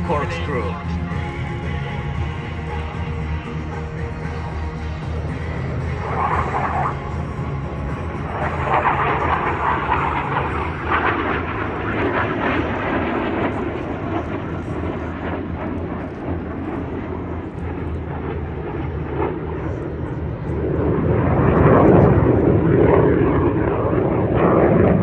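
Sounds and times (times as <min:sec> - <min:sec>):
jet roar: 0:00.0 - 0:25.0.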